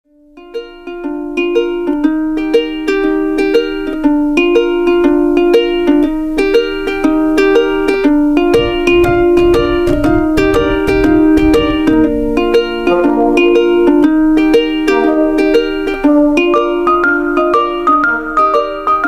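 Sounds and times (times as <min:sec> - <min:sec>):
plucked string tune: 0:00.1 - 0:19.0
low musical accompaniment: 0:00.2 - 0:19.0.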